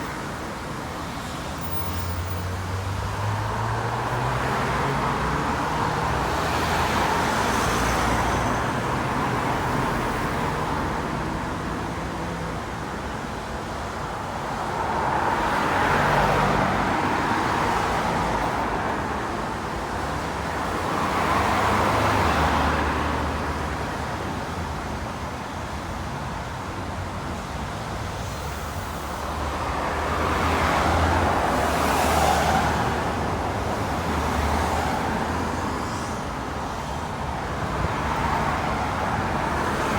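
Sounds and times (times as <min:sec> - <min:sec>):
vehicles driving past: 0:00.0 - 0:39.9.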